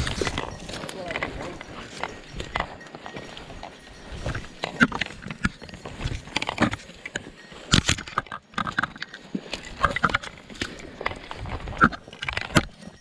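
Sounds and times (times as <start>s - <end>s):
branches scraping: 0.0s - 11.8s.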